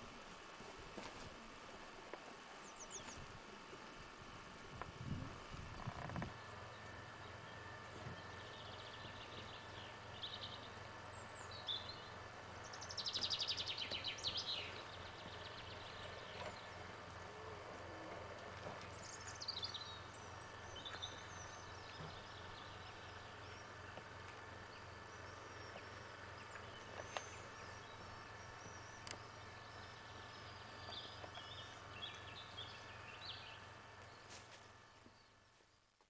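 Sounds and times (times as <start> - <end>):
steady hum and hiss: 0.0 - 36.0
small birds chirping: 2.1 - 36.0.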